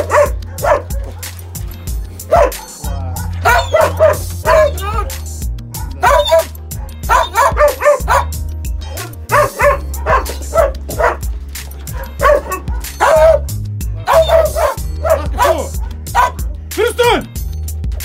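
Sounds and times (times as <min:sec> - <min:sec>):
dogs barking: 0:00.0 - 0:16.8
background music: 0:00.0 - 0:18.0.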